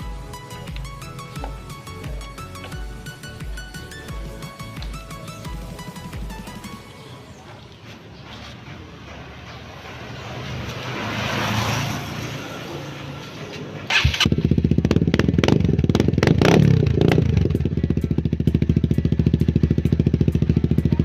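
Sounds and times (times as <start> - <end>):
motorcycle engine starting and idling: 0.0 - 21.0.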